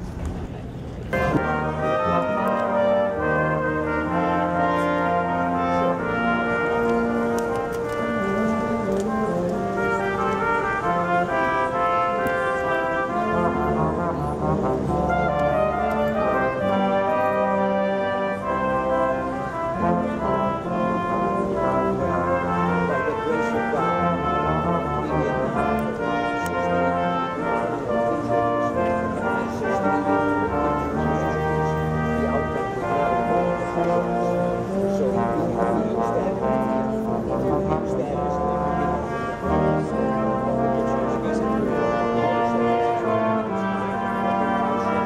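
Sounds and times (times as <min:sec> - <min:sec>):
brass ensemble playing chords: 0:01.1 - 0:45.0
low tuba notes: 0:01.1 - 0:45.0.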